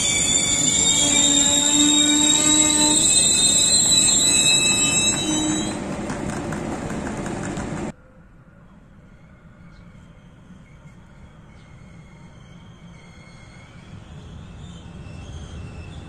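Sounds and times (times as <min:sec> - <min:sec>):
train wheels squealing: 0:00.0 - 0:06.0, 0:08.6 - 0:16.0
train rumble: 0:00.0 - 0:16.0.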